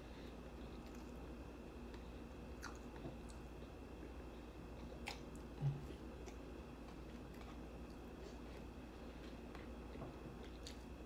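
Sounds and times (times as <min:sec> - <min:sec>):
chewing with mouth closed: 0:00.6 - 0:03.8, 0:04.6 - 0:11.0.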